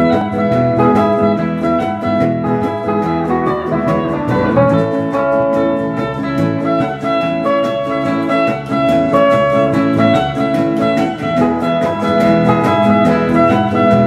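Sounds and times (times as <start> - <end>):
guitars strumming: 0.0 - 14.0
squeezebox melody: 0.0 - 14.0.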